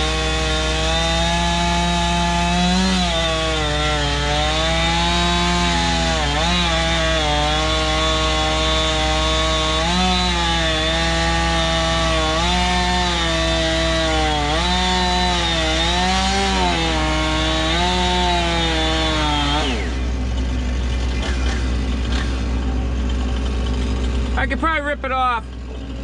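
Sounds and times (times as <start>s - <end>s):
chainsaw cutting a log: 0.0s - 26.0s
low diesel engine hum: 0.0s - 26.0s.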